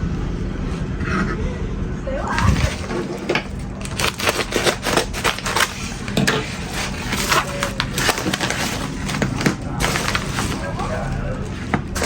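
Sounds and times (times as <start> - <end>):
packaging crackling: 2.2 - 12.0.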